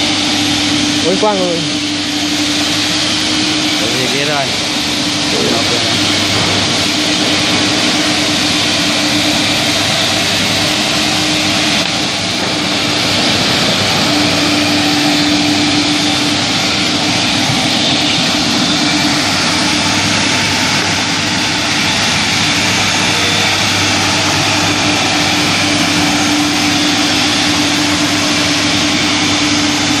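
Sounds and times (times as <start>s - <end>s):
floor scrubber motor running: 0.0s - 30.0s.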